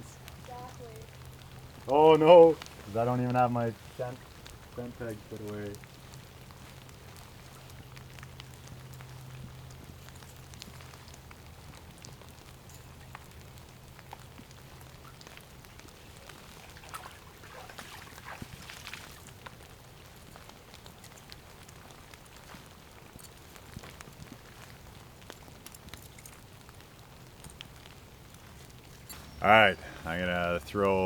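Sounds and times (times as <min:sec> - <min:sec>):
light rain pattering: 0:00.0 - 0:31.0.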